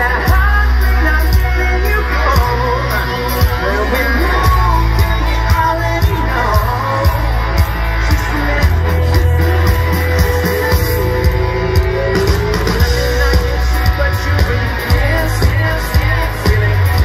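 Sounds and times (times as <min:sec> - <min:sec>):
drum kit beating: 0:00.0 - 0:17.0
heavy bass: 0:00.0 - 0:17.0
man singing: 0:00.0 - 0:17.0.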